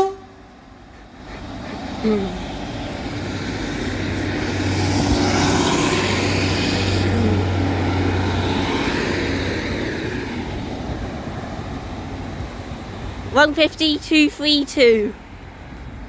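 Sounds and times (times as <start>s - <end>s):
heavy diesel engine droning: 0.0s - 15.6s.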